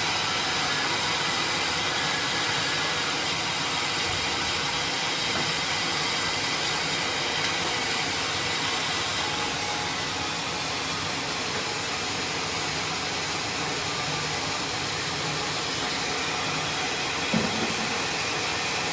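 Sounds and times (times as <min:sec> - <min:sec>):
sawmill machine running: 0:00.0 - 0:18.9.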